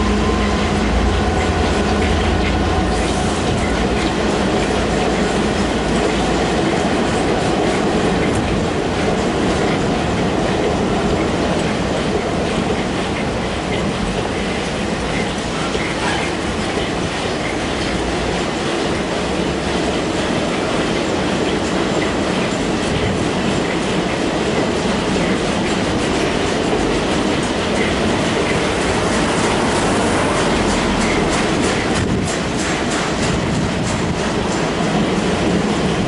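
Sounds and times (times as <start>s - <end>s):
train wheels clattering on rails: 0.0s - 36.0s.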